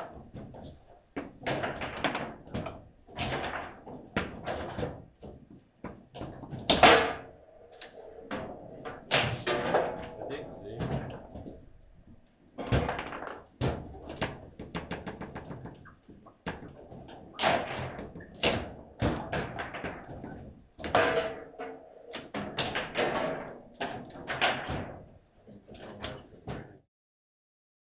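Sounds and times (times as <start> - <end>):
foosball knocks and clacks: 0.0 - 26.8.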